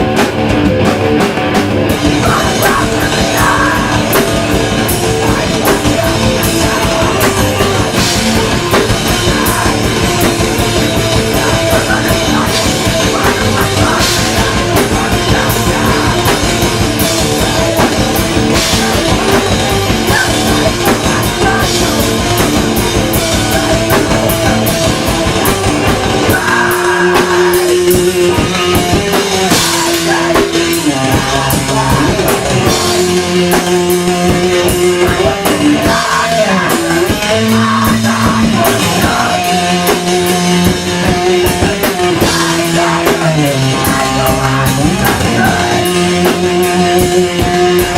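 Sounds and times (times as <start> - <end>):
distorted guitars: 0.0 - 47.9
hardcore band playing loudly: 0.0 - 47.9
picked guitar notes: 0.0 - 47.9
pounding drums: 0.0 - 47.9.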